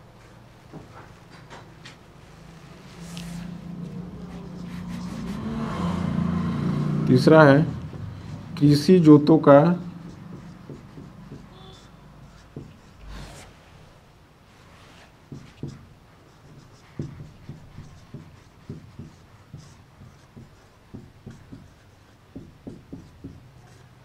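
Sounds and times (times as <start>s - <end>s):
chalk writing on blackboard: 2.9s - 13.6s, 14.6s - 24.0s.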